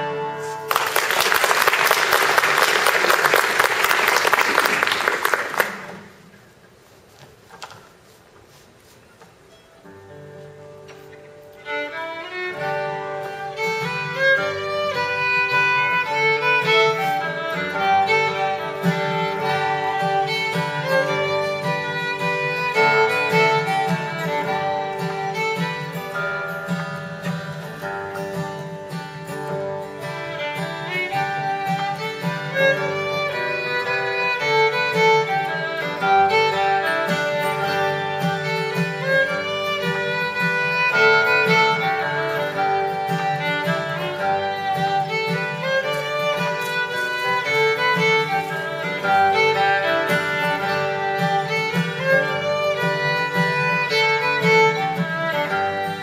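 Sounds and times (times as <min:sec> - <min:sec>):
acoustic guitar rhythm: 0:00.0 - 0:03.8, 0:08.2 - 0:56.0
fiddle playing: 0:00.0 - 0:06.1, 0:10.0 - 0:56.0.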